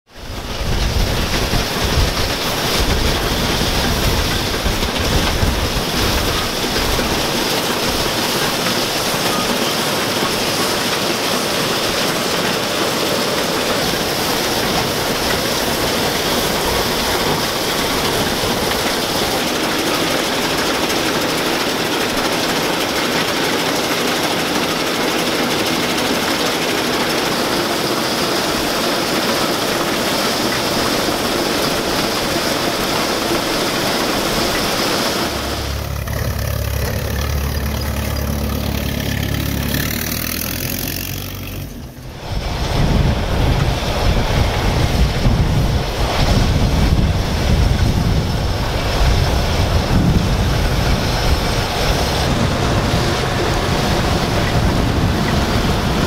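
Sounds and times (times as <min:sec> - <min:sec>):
combine harvester running: 0:00.1 - 0:56.0
deep steady engine: 0:00.3 - 0:56.0.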